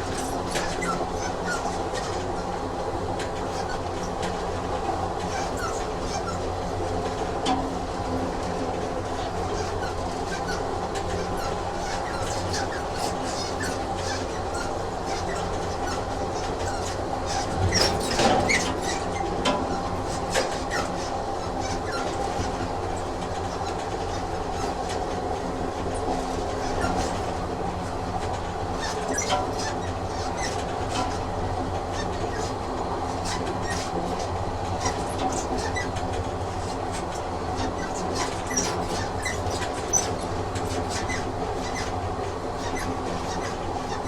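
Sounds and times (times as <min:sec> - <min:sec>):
train clatter: 0:00.0 - 0:44.0
train rumble and hum: 0:00.0 - 0:44.0.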